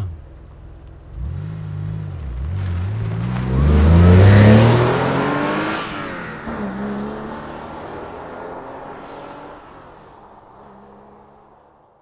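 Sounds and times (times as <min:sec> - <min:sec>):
car engine revving and accelerating: 0:01.0 - 0:11.6.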